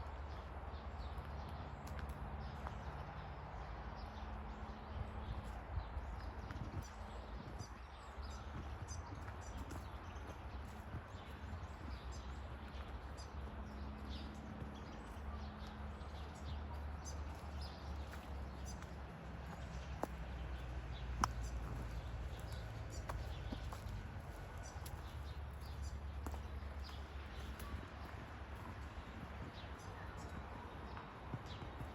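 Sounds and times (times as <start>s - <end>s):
small birds chirping: 0.1s - 31.9s.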